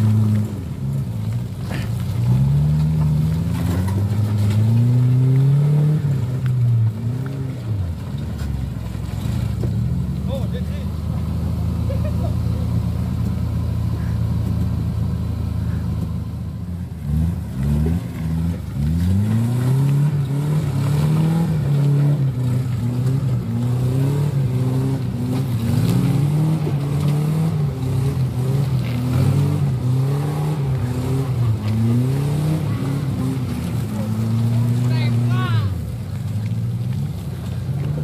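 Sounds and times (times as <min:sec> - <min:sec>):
jeep engine revving: 0:00.0 - 0:38.0.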